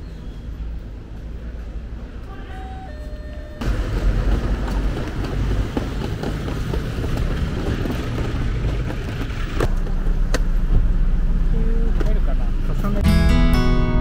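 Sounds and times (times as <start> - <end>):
traffic rumble: 0.0 - 13.1.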